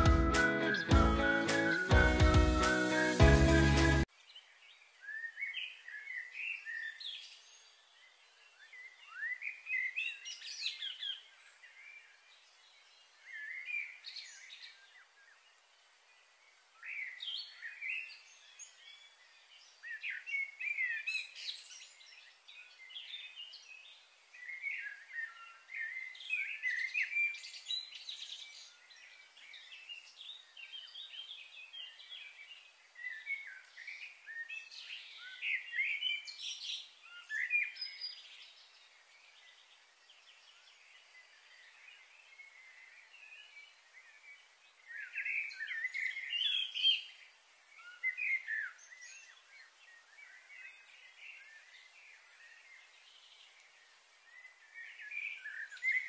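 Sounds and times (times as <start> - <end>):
small birds chirping: 0.0 - 56.0
faint background hiss: 4.0 - 56.0.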